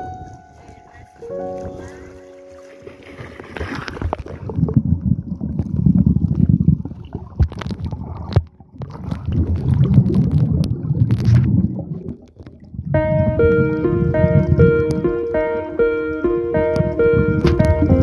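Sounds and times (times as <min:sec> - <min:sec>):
underwater rumbling and gurgling: 0:00.0 - 0:18.0.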